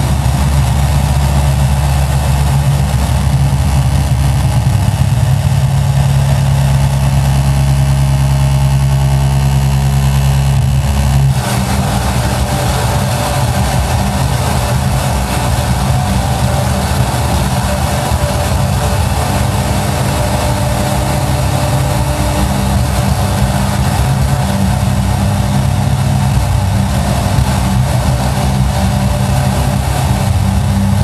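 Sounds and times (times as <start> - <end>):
engine-like low drone: 0.0 - 31.0.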